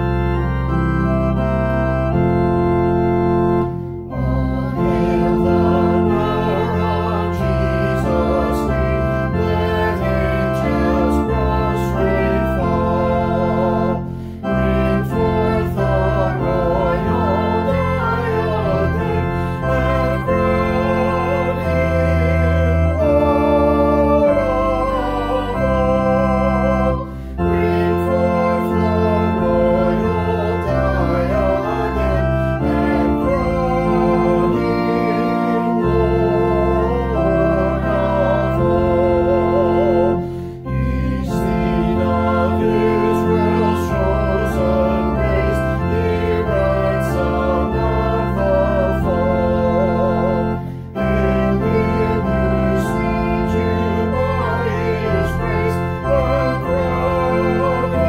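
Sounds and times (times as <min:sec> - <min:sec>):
organ playing a hymn: 0:00.0 - 0:58.0
person singing: 0:04.1 - 0:58.0.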